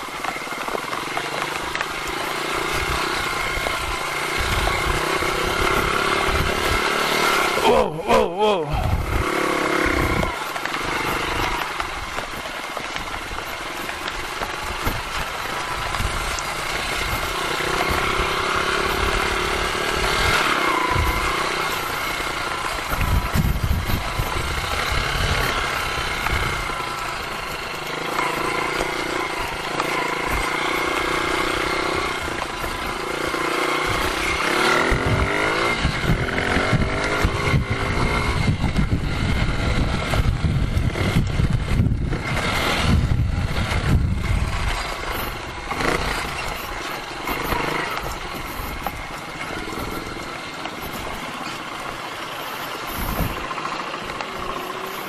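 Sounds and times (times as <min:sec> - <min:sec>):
dirt bike engine revving: 0:00.0 - 0:55.0
wind buffeting microphone: 0:08.7 - 0:27.8, 0:28.5 - 0:54.7.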